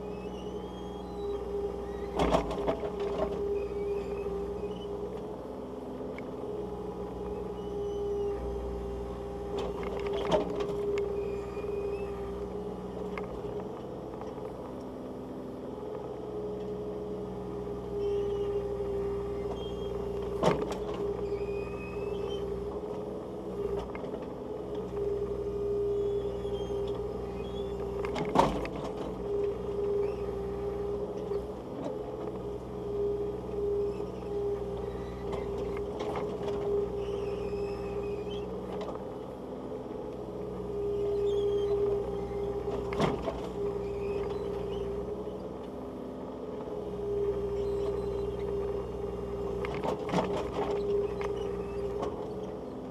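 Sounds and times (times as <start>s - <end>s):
excavator diesel engine running: 0.0s - 52.9s
hydraulics working: 0.0s - 52.9s.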